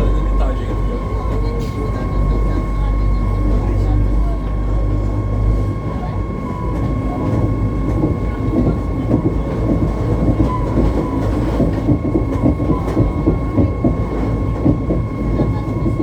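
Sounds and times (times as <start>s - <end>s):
train rumbling: 0.0s - 16.0s
wheels clattering on track: 0.0s - 16.0s.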